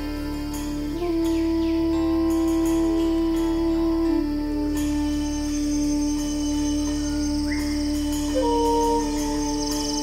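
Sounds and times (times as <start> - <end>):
higher sustained note: 0.0 - 10.0
low drone: 0.0 - 10.0.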